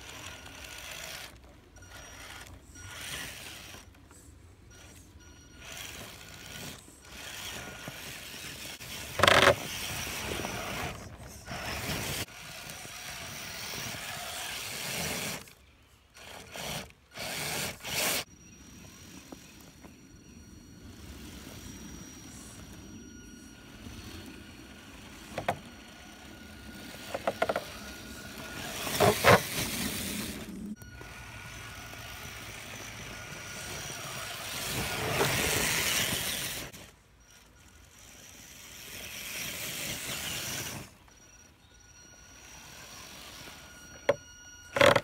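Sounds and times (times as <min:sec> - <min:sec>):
faint motor whine: 0:00.0 - 0:45.0.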